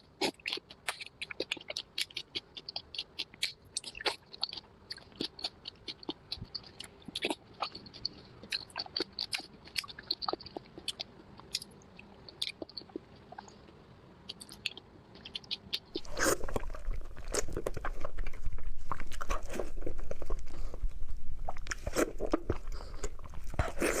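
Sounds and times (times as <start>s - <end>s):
close chewing and mouth clicks: 0.0s - 24.0s.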